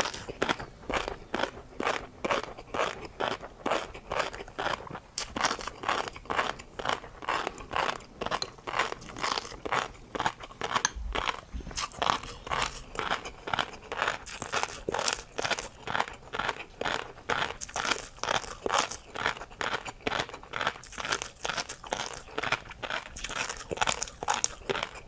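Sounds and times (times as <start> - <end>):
mouth chewing crunchy food: 0.0 - 25.0.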